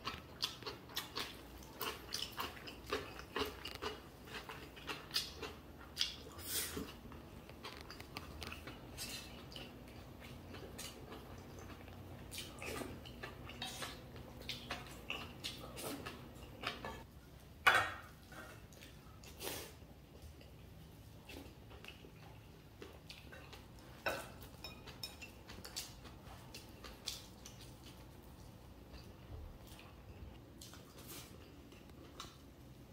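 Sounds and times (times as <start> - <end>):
chewing: 0.0 - 17.1, 18.2 - 32.9.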